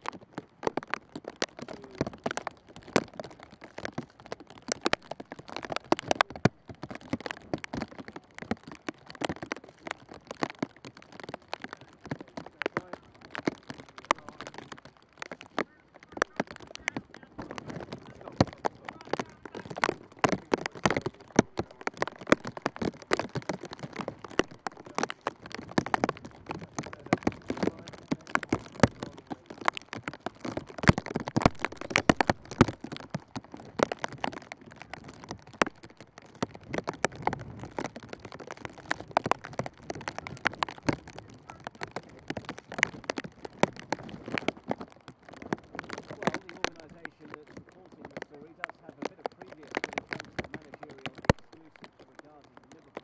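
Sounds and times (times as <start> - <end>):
sharp clicks and taps: 0.0 - 53.0.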